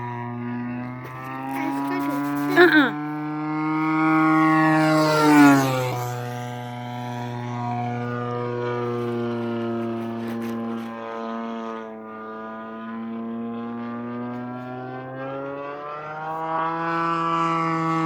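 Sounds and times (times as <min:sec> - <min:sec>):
model airplane engine buzzing: 0:00.0 - 0:18.0.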